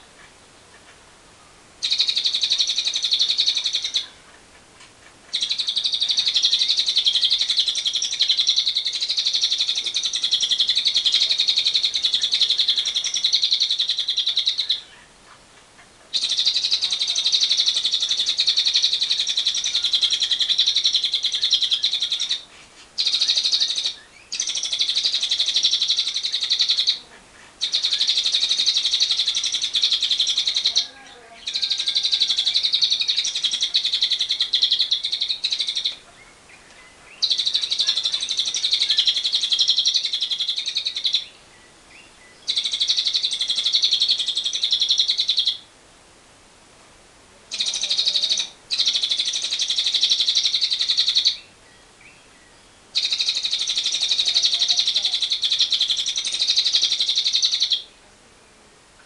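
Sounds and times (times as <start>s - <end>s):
lovebird chattering: 1.8s - 45.7s, 47.5s - 51.5s, 52.9s - 58.0s.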